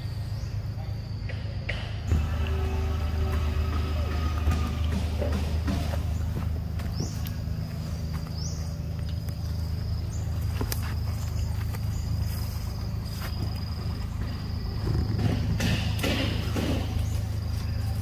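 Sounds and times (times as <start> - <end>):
high-pitched insect drone: 2.0 - 18.0
low rumble: 2.0 - 18.0.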